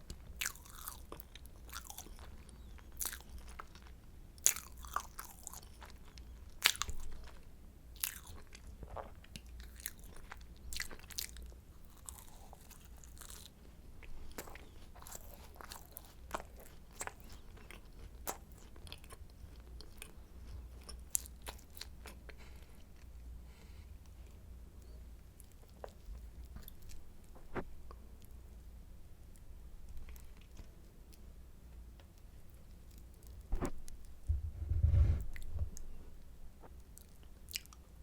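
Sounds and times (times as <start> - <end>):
chewing crunchy pastry: 0.0 - 24.4, 25.2 - 28.5, 29.2 - 31.3, 31.9 - 34.0, 36.6 - 38.0.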